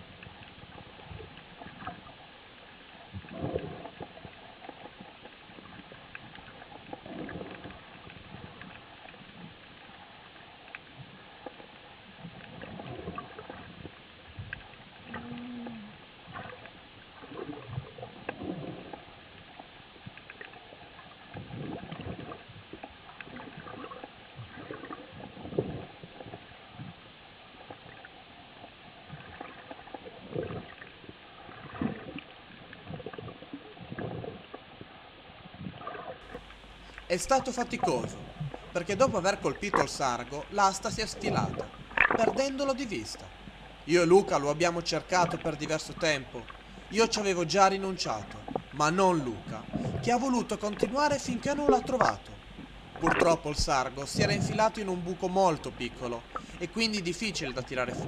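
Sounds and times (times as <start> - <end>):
faint steady hiss: 0.0 - 58.0
underwater gurgles and swishes: 0.0 - 58.0.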